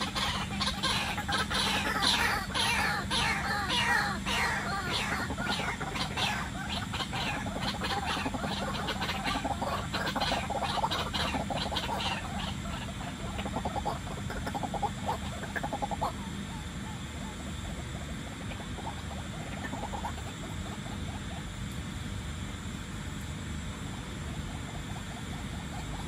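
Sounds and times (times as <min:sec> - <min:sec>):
birds clucking calls: 0:00.0 - 0:21.6
steady low hum: 0:00.0 - 0:26.0.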